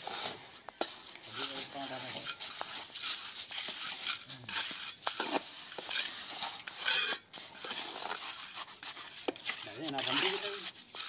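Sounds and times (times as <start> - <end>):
trowels scraping wet cement: 0.0 - 11.0.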